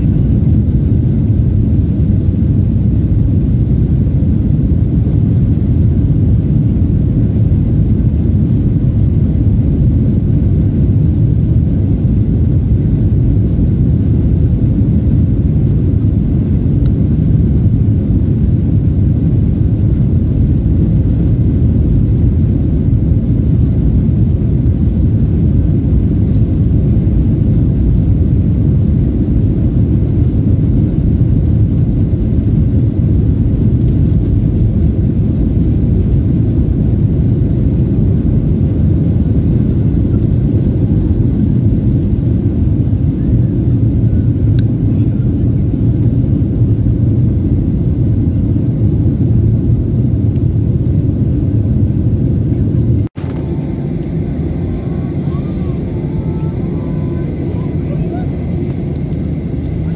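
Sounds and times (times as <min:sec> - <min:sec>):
jet engine cabin rumble: 0:00.0 - 0:59.9.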